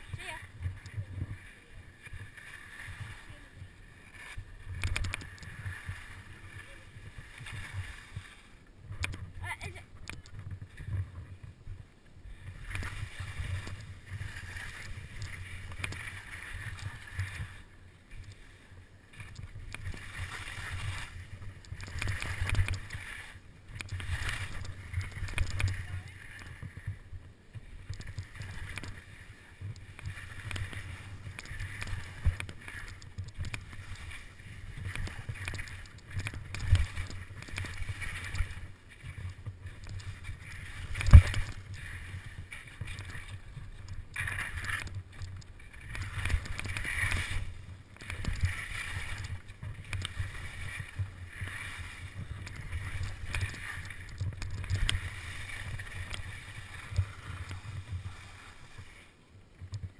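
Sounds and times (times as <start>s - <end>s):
skis scraping over snow: 0.0s - 9.8s, 10.4s - 59.9s
wind rumbling on microphone: 0.0s - 59.9s.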